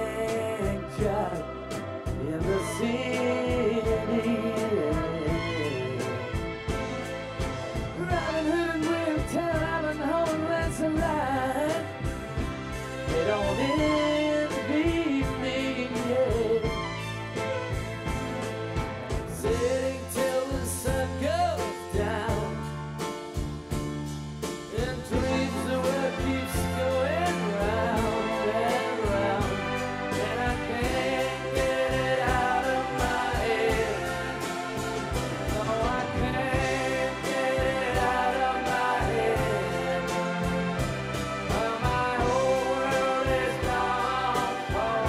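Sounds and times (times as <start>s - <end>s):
song with singing voice: 0.0s - 45.0s.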